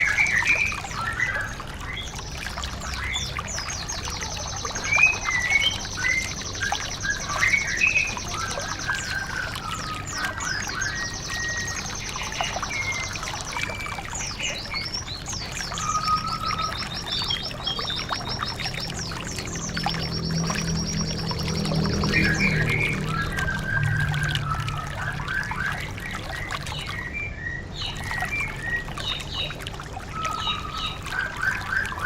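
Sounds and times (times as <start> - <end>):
songbirds chirping and trilling: 0.0 - 32.0
trickling water: 0.0 - 32.0.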